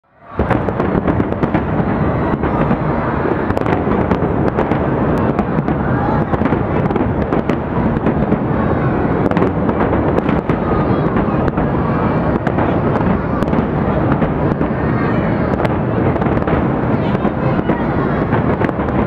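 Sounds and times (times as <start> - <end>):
fireworks bangs: 0.1 - 19.0
fireworks crackling: 0.1 - 19.0.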